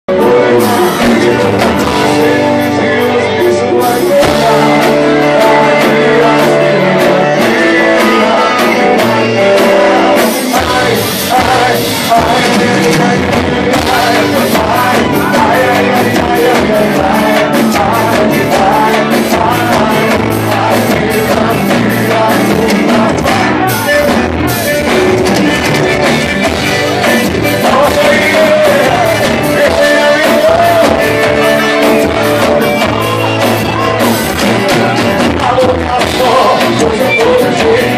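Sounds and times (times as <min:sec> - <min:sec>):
guitar: 0:00.0 - 0:37.9
person singing: 0:00.0 - 0:37.9
live band playing country song: 0:00.1 - 0:37.9
steady drum beat: 0:00.1 - 0:37.9.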